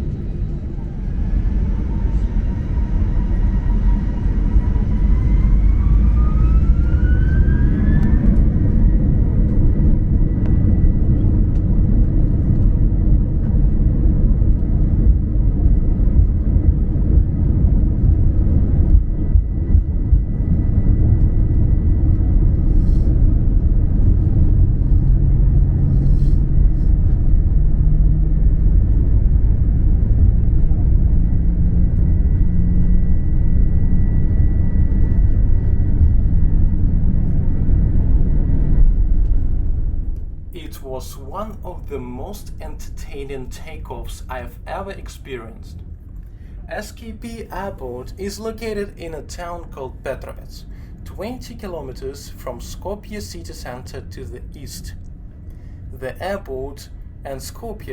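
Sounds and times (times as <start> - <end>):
jet engines spooling up: 0.0 - 27.8, 29.9 - 57.9.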